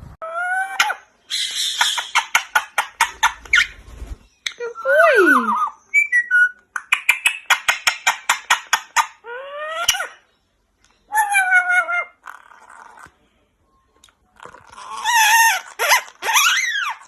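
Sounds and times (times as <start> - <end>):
parrot calling: 0.2 - 3.8, 4.4 - 10.3, 11.1 - 13.0, 14.6 - 17.0.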